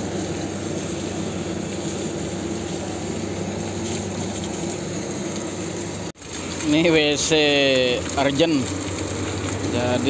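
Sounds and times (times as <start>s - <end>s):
machinery droning: 0.0s - 10.0s.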